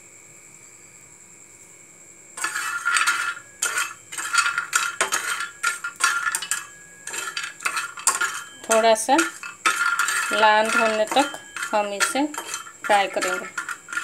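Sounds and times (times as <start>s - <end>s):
spatula scraping frying pan: 2.4s - 14.0s.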